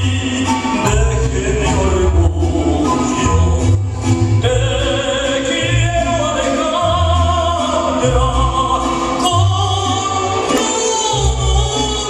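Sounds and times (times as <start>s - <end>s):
waltz music with singing: 0.0s - 12.0s.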